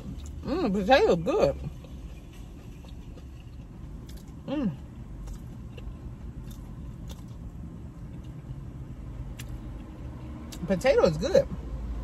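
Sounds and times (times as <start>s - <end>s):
chewing and crunching: 0.0s - 10.8s
steady low hum: 0.0s - 12.0s.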